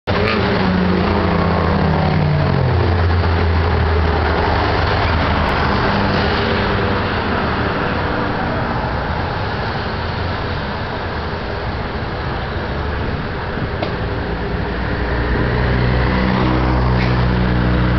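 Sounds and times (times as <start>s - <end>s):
tyre and traffic noise: 0.0s - 17.9s
car engine drone passing: 0.1s - 17.9s
cars driving past: 0.1s - 17.9s.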